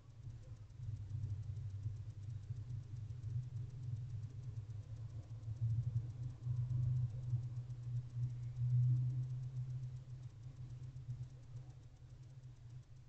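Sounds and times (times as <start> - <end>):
faint fast ticking: 0.0 - 13.0
low steady rumble: 0.0 - 13.0.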